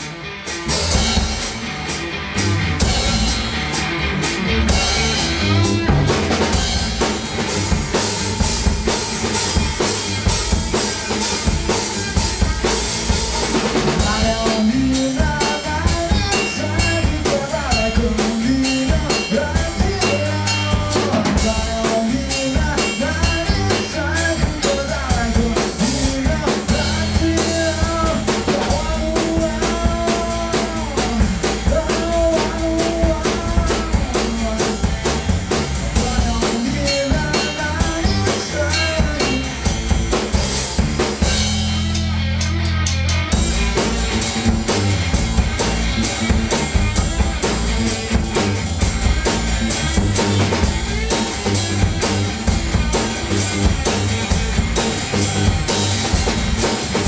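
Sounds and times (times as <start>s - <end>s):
bending electric guitar lead: 0.0s - 57.0s
small band playing blues: 0.0s - 57.0s.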